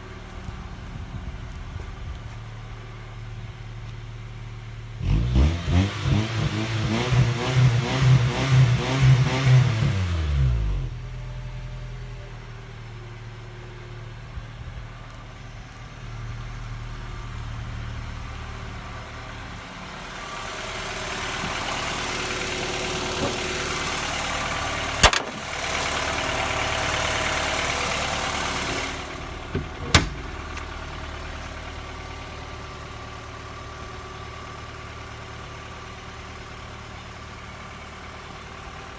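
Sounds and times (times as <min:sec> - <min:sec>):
car engine revving and idling: 0:00.0 - 0:38.9.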